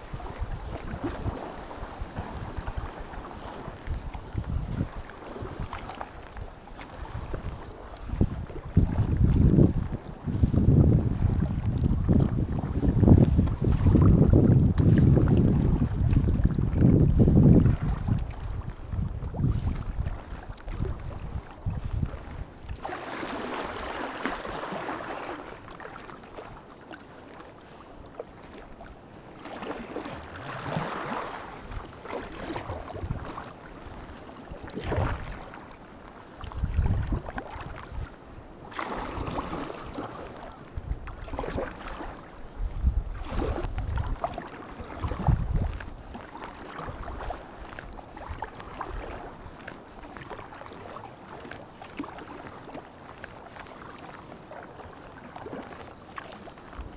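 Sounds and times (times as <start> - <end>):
wind rumble on microphone: 0.0 - 26.6, 29.7 - 35.7, 36.3 - 52.5, 56.4 - 56.9
paddle splashing through water: 0.0 - 56.9
water lapping against hull: 0.0 - 56.9.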